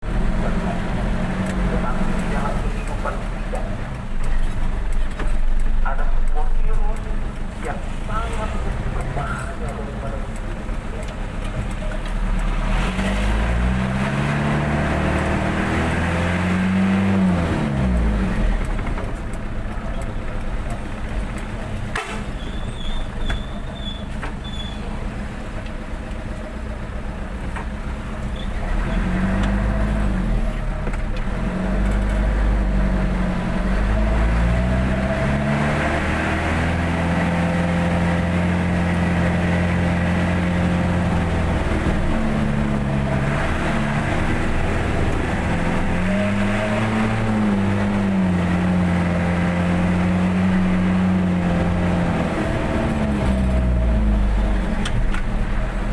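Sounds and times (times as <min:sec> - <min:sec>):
truck engine pulling away: 0:07.1 - 0:25.6, 0:27.9 - 0:55.9.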